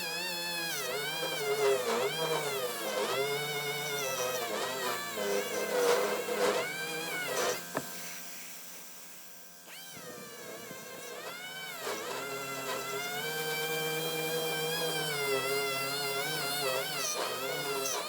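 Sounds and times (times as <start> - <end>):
power sander whining: 0.0 - 18.0.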